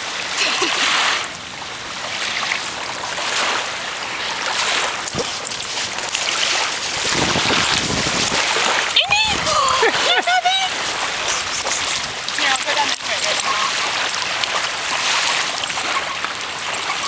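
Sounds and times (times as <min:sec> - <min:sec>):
waves lapping at shore: 0:00.0 - 0:17.0
wind buffeting microphone: 0:01.4 - 0:17.0.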